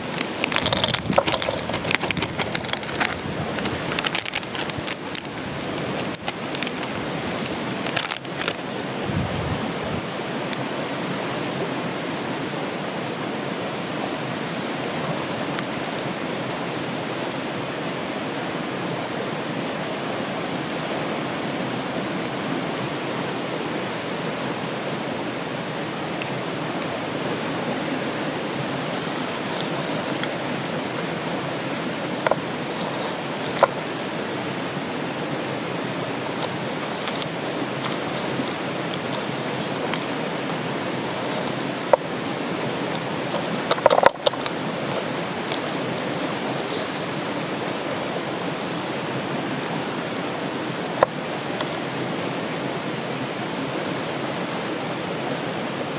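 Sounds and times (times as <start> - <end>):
river rushing: 0.0 - 55.9.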